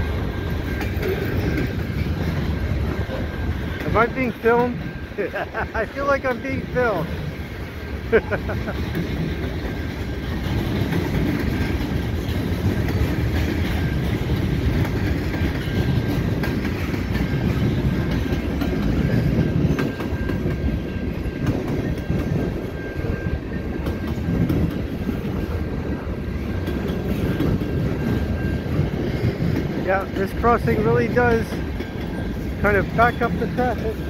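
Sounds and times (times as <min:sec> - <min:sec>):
train wheel clacks: 0:00.0 - 0:34.0
train wheels rumbling on rails: 0:00.0 - 0:34.0.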